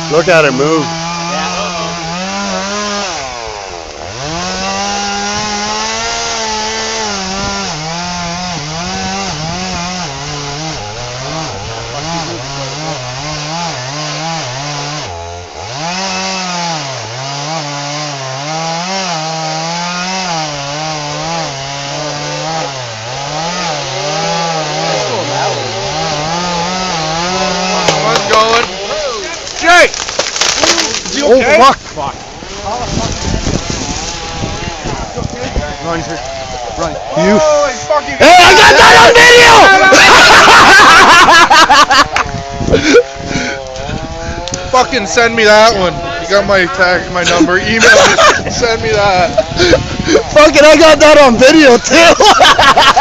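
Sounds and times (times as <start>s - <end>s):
chainsaw cutting tree trunk: 0.0s - 53.0s.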